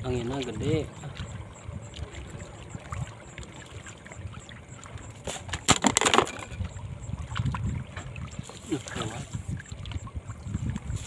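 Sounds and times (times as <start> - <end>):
water lapping: 0.0 - 11.0
wind buffeting microphone: 0.0 - 11.0.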